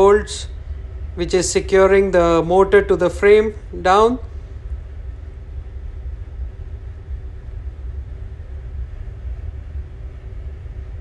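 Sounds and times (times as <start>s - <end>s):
faint steady hum: 0.0s - 11.0s
machinery rumbling: 0.0s - 11.0s.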